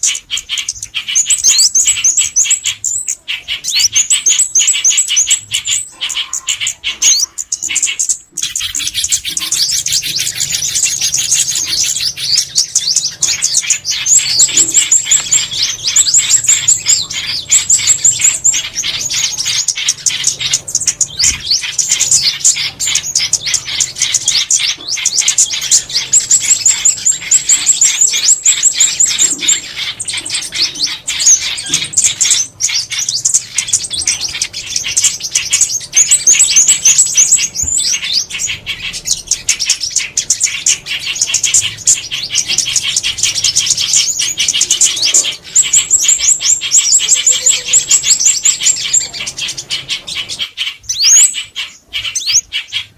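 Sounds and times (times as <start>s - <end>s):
songbird chirps and trills: 0.0s - 52.9s.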